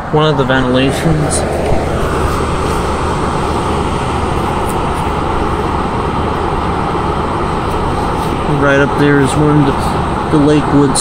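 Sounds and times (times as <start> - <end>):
window fan running: 0.0 - 11.0.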